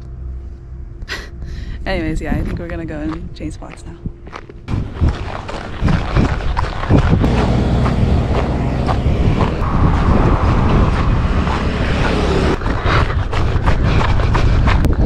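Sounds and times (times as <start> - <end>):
wind buffeting microphone: 1.4 - 15.0.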